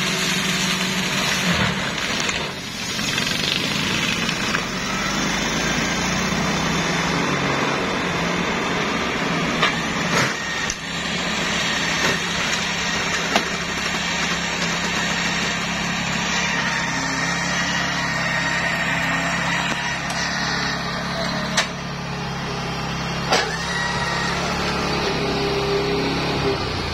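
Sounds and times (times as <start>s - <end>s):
flail mower running: 0.0s - 26.9s.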